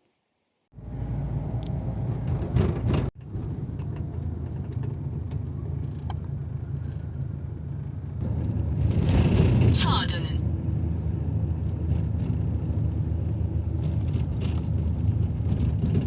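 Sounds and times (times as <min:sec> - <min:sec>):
moving car rumble: 0:00.7 - 0:16.0.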